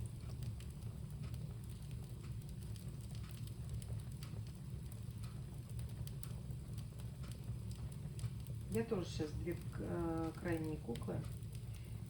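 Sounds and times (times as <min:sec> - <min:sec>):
bonfire crackling and popping: 0:00.0 - 0:12.0
low rumble of flames: 0:00.0 - 0:12.0.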